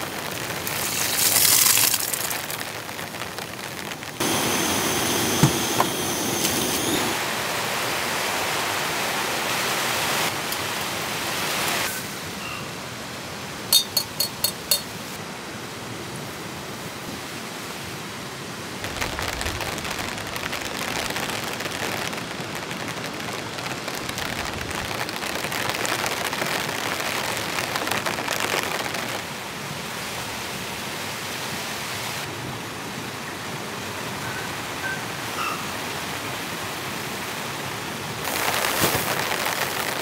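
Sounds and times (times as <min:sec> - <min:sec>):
heavy rain falling: 0:00.0 - 0:13.7, 0:17.4 - 0:40.0.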